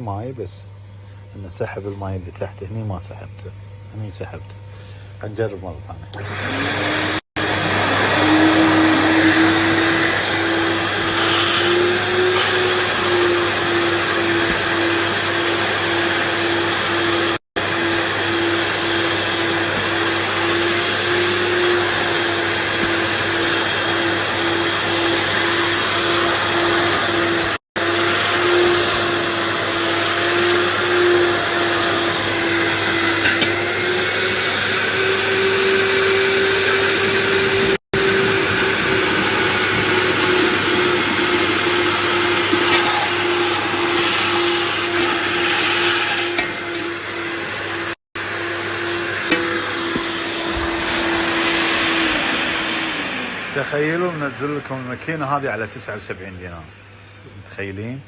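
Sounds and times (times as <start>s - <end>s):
wet vacuum cleaner whining: 6.1s - 56.6s.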